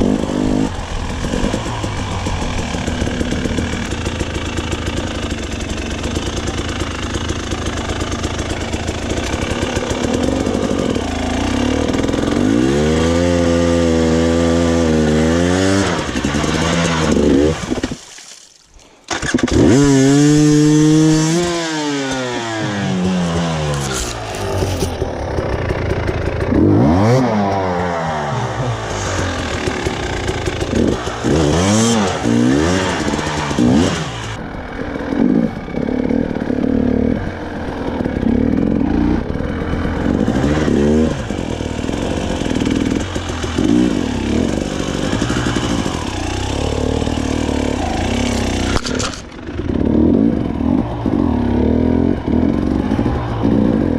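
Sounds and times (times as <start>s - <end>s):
dirt bike engine revving: 0.0s - 18.3s, 18.9s - 53.9s.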